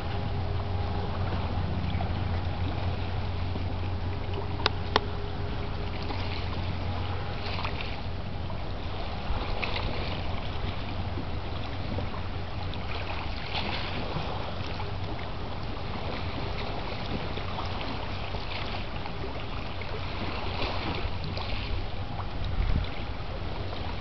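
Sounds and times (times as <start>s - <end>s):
ship engine drone: 0.0s - 24.0s
wind and river water hiss: 0.0s - 24.0s.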